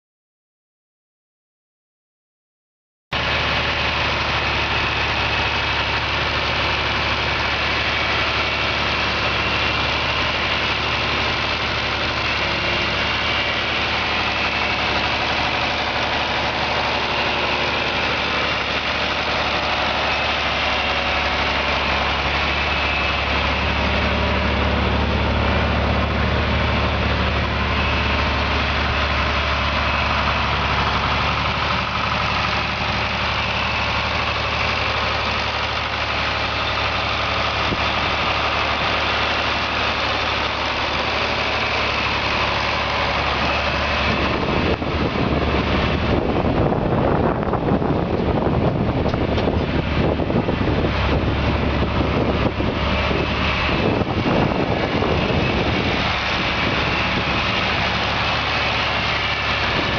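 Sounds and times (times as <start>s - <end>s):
tractor diesel engine running: 3.1s - 59.9s.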